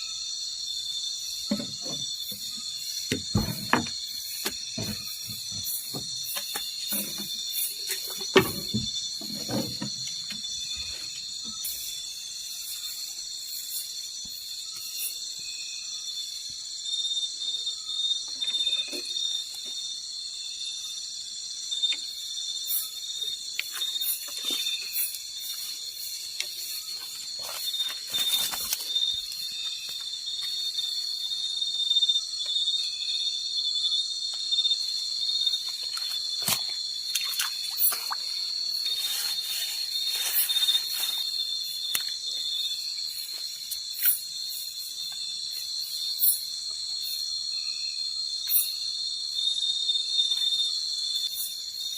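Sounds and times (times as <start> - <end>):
insects chirping in chorus: 0.0 - 51.9.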